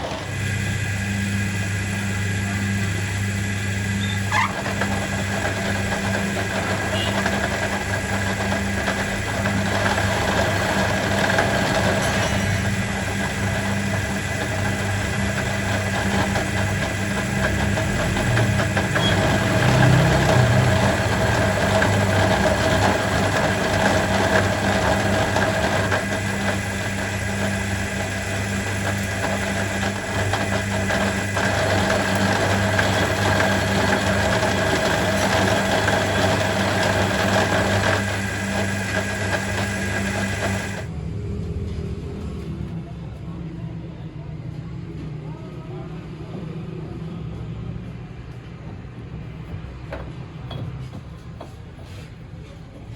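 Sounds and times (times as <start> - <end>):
workshop machine humming: 0.0 - 47.3, 48.3 - 52.9.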